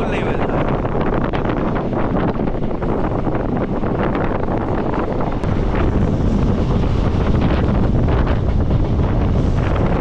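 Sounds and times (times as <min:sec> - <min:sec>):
train rumbling on rails: 0:00.0 - 0:10.0
wind buffeting microphone: 0:00.0 - 0:10.0.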